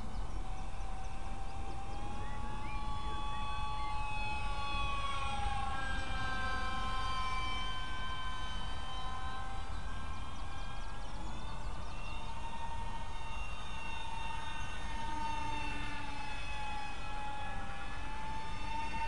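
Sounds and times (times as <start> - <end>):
model plane electric motors whining: 0.0 - 19.0
wind rumble on microphone: 0.0 - 19.0.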